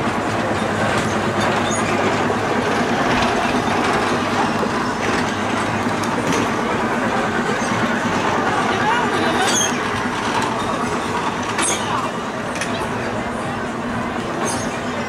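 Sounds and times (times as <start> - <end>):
busy park background noise: 0.0 - 15.0
small ride-on tractors rumbling: 0.0 - 15.0.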